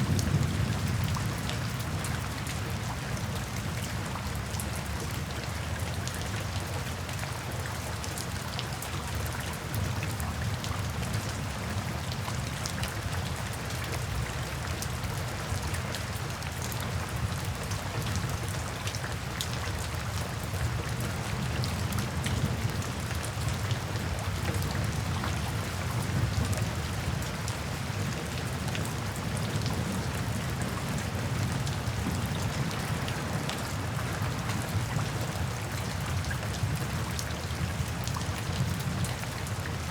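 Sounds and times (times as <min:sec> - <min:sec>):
rain falling: 0:00.0 - 0:39.9
raindrops ticking on surfaces: 0:00.0 - 0:39.9.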